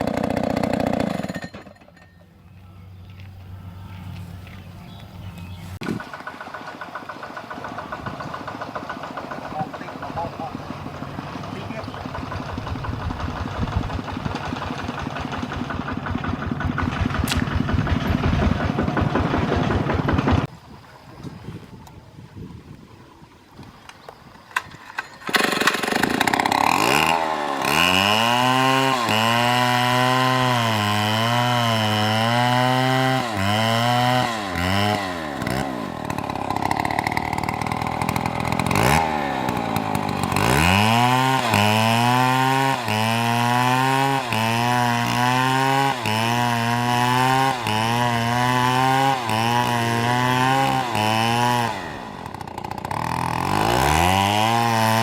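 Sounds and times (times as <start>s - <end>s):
chainsaw cutting wood: 0.0s - 1.8s, 5.8s - 20.5s, 24.6s - 55.0s.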